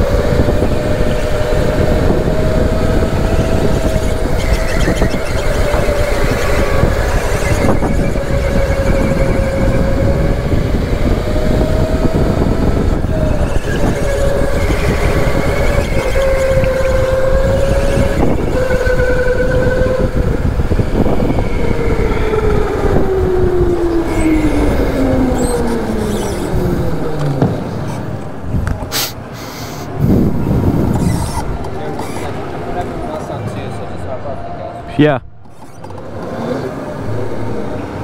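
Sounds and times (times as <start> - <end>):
go-kart motor: 0.0 - 28.9, 30.2 - 33.3, 35.4 - 38.0
kart rumbling on track: 0.0 - 38.0.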